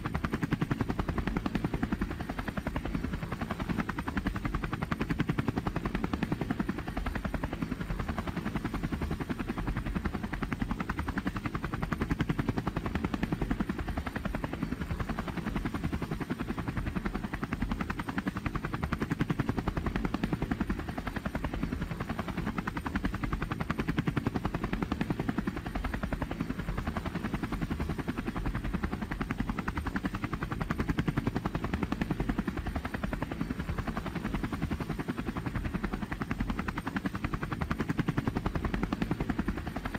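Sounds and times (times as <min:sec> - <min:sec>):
helicopter engine drone: 0:00.0 - 0:39.9
helicopter rotor beating: 0:00.0 - 0:39.9.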